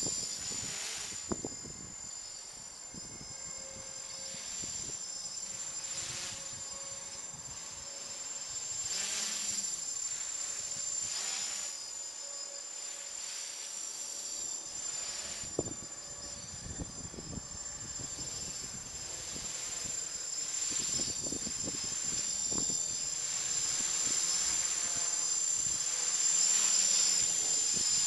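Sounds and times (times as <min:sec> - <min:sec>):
drone buzzing whine: 0:00.0 - 0:28.0.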